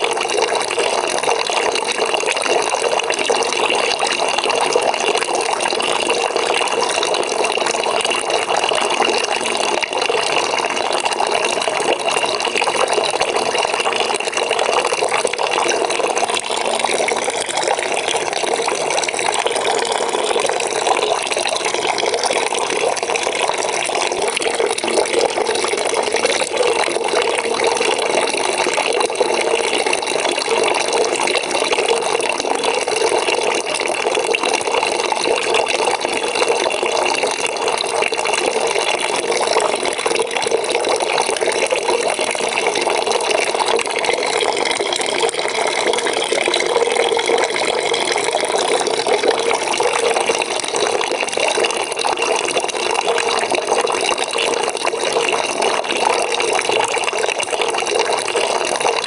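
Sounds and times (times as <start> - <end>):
tap water pouring into a bucket: 0.0 - 59.0.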